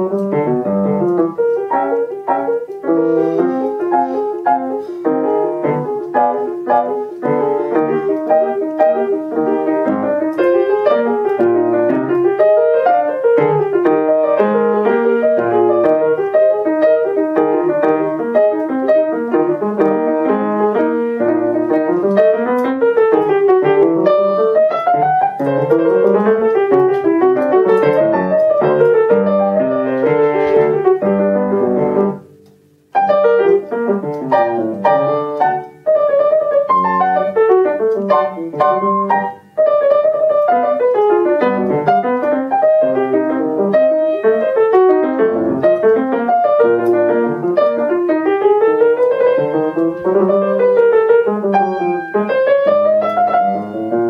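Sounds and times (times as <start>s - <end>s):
upright piano playing: 0.0s - 54.0s.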